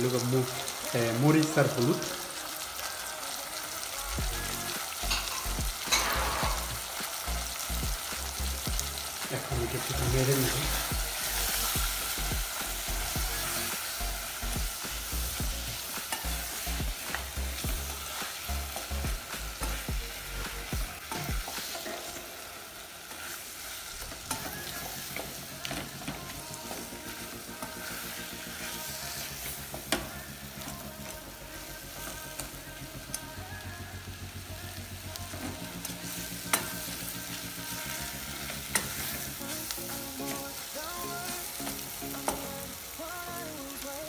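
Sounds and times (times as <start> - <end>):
onions sizzling in a pan: 0.0 - 44.0.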